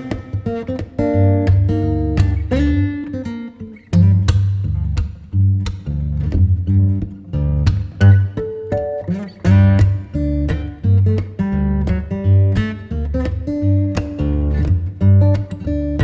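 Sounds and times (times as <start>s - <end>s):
deep rhythmic bass notes: 0.0s - 3.1s, 3.9s - 8.8s, 9.4s - 16.0s
plucked acoustic guitar: 0.0s - 16.0s.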